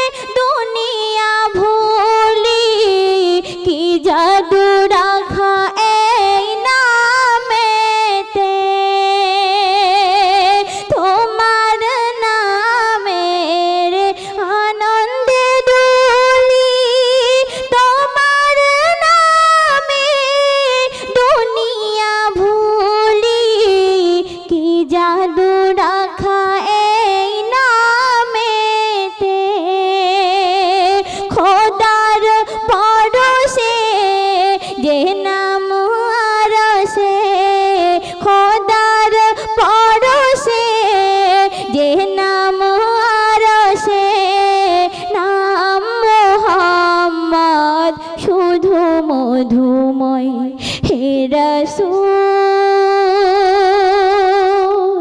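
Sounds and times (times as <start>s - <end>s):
high voice singing ghazal: 0.0s - 55.0s.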